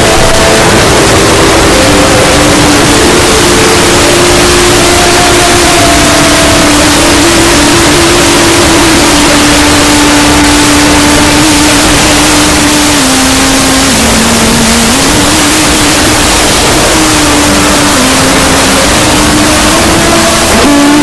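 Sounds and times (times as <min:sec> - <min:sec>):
harsh distorted hiss: 0:00.0 - 0:21.0
held tone: 0:00.0 - 0:21.0.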